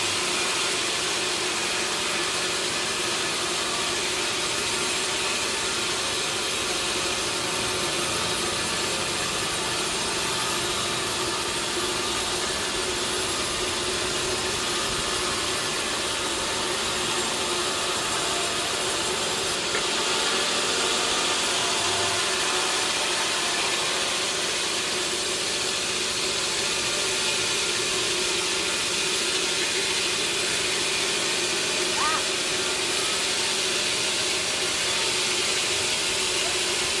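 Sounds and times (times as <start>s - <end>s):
sawmill saw cutting log: 0.0s - 37.0s.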